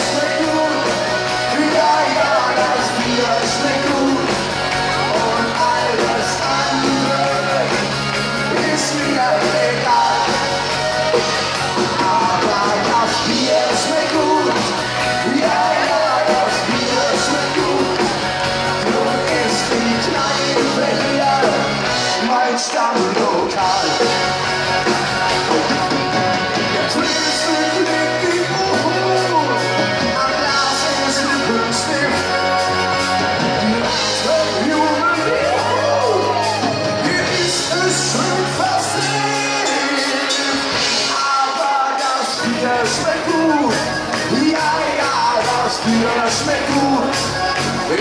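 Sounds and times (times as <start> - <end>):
live folk-rock band playing: 0.0 - 48.0
voices singing or shouting: 0.0 - 48.0.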